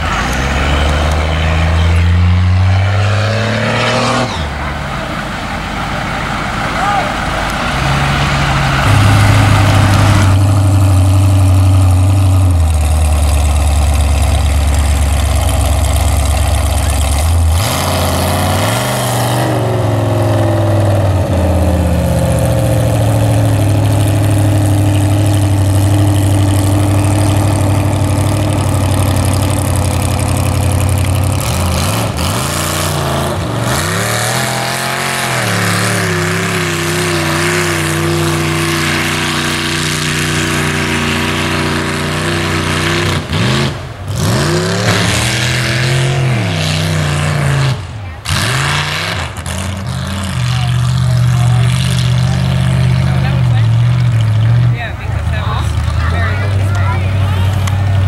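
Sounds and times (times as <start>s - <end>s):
truck engines idling and revving: 0.0s - 58.0s.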